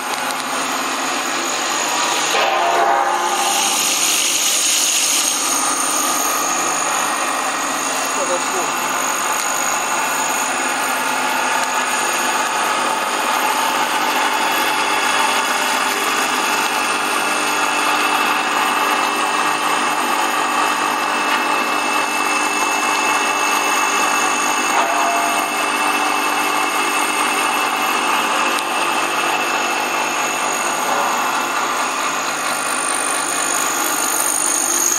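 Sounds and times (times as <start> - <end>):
mill grinding with mechanical whine: 0.0 - 34.9.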